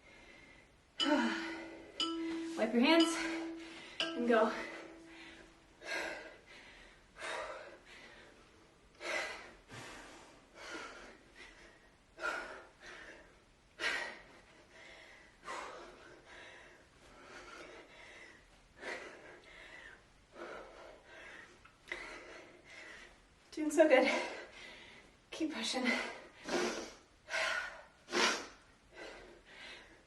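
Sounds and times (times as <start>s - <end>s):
woman breathing heavily: 0.0s - 2.0s, 4.7s - 30.0s.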